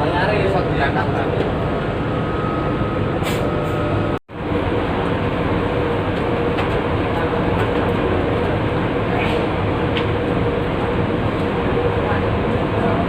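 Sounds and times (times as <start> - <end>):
ship engines rumbling drone: 0.0 - 13.0.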